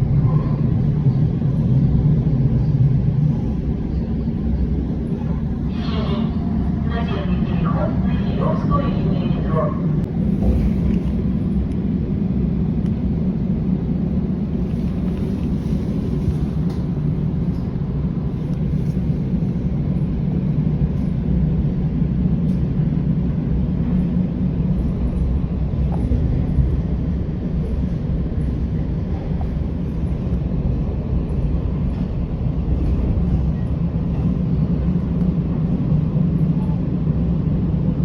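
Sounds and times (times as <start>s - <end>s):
moving train rumbling: 0.0s - 38.0s.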